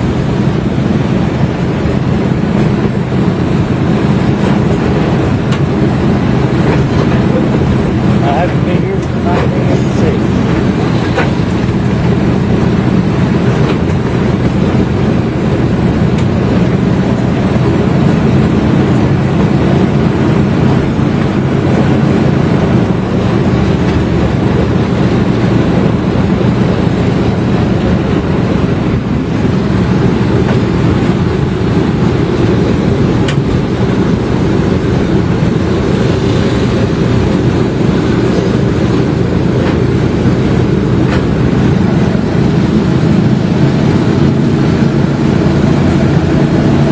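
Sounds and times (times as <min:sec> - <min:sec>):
ride train rumbling: 0:00.0 - 0:46.9.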